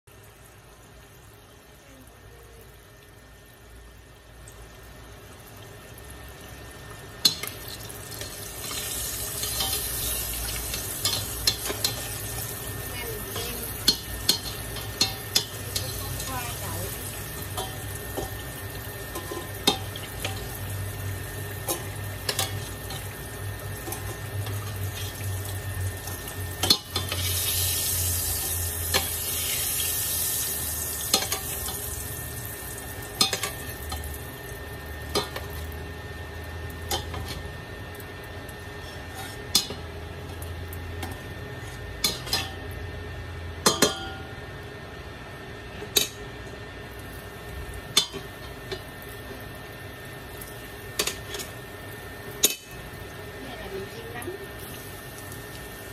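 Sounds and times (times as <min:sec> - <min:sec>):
oil sizzling deep-frying: 0:00.0 - 0:55.9
low steady hum: 0:00.1 - 0:55.9.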